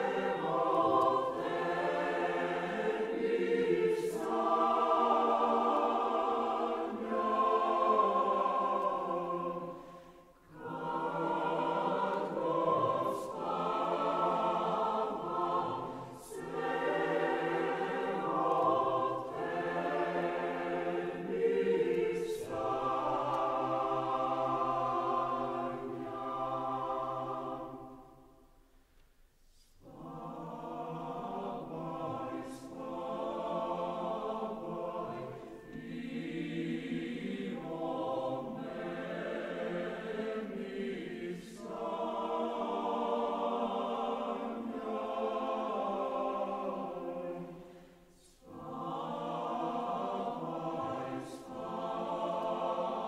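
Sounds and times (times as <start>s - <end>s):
choir singing a cappella: 0.0s - 28.6s, 29.4s - 53.0s.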